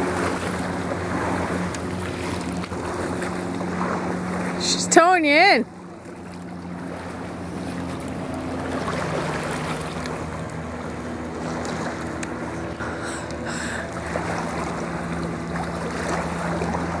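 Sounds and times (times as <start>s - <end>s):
steady low hum: 0.0s - 17.0s
water washing on lake: 0.0s - 17.0s.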